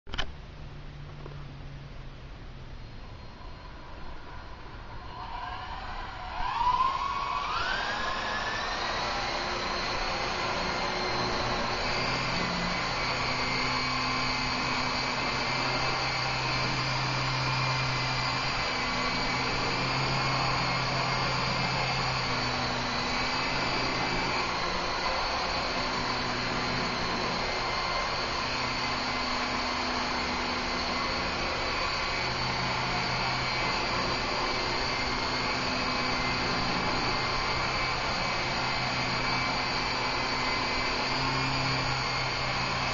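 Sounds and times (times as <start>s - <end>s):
rotor hum: 0.1s - 42.9s
rc helicopter motor whine: 1.0s - 42.9s.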